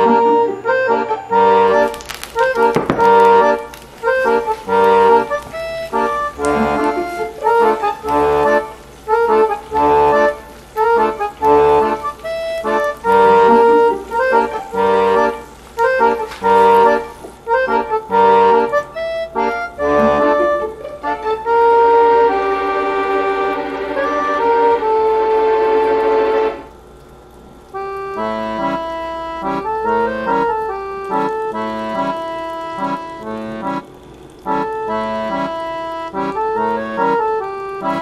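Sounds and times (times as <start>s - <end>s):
instrumental music: 0.0s - 38.0s.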